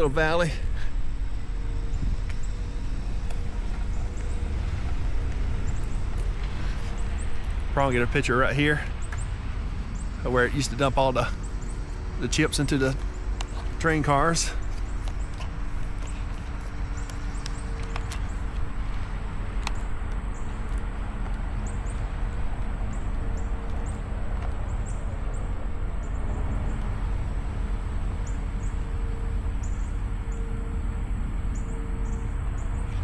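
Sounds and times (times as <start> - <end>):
birds chirping: 0.0 - 33.0
low rumble with motor hum: 0.0 - 33.0.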